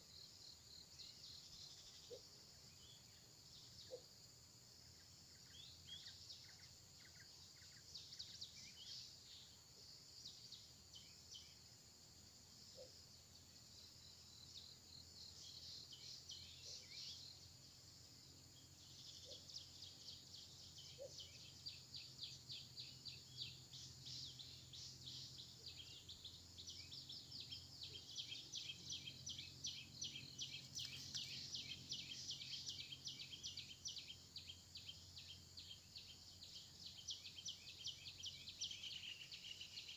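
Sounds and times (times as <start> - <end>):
outdoor ambience among trees: 0.0 - 39.9.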